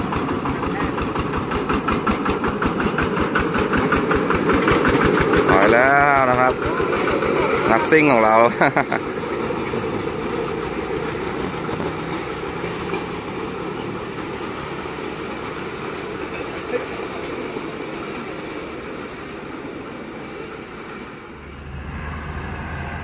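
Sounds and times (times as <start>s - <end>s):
small rail trolley engines: 0.0s - 23.0s.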